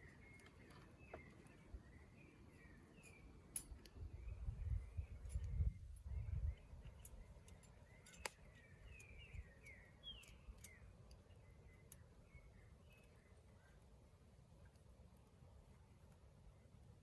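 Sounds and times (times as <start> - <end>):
bird chirping: 0.0 - 13.8.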